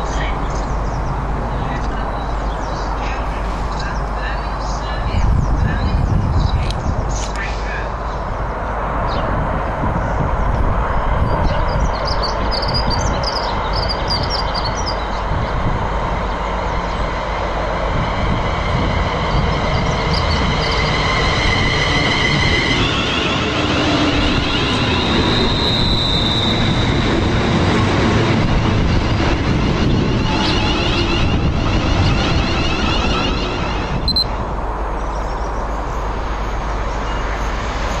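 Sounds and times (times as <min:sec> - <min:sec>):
train wheels rumbling: 0:00.0 - 0:35.3.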